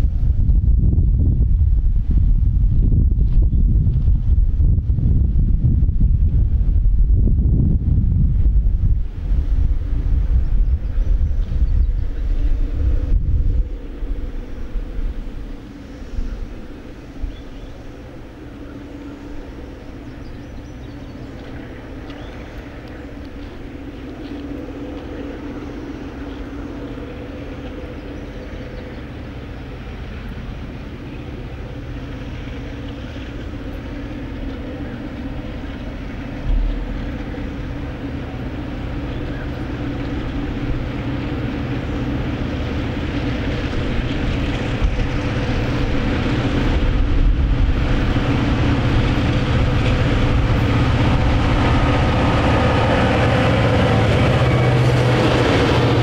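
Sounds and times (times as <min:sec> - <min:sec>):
diesel locomotive engines droning: 0:00.0 - 0:56.0.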